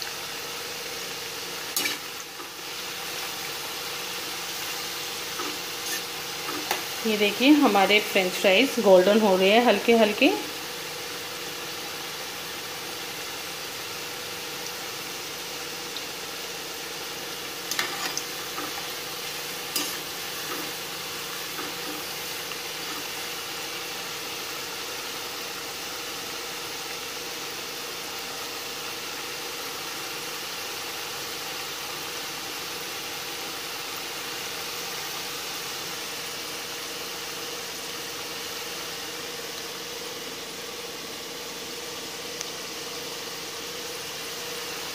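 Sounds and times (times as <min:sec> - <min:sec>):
fries sizzling in oil: 0:00.0 - 0:44.9.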